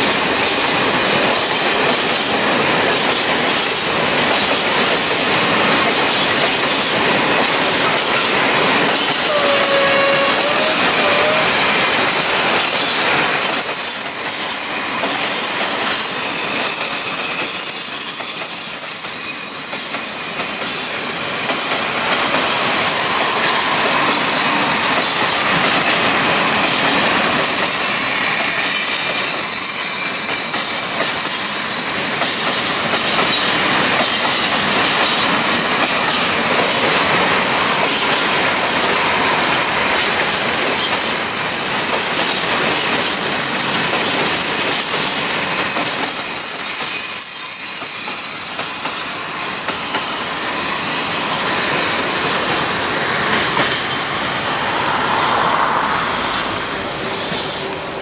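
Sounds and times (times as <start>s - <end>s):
train wheels rumbling on rails: 0.0s - 58.0s
high-pitched wheel squeal: 1.5s - 58.0s.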